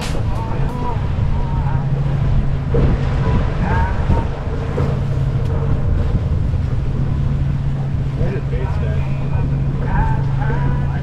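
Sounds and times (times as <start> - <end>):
outboard motor running: 0.0 - 11.0
wind buffeting microphone: 0.0 - 11.0.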